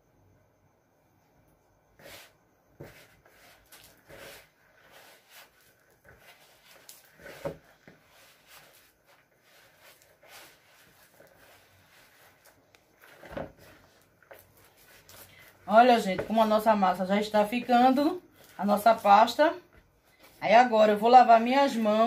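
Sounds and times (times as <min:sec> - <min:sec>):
hands kneading paste: 0:02.0 - 0:22.0.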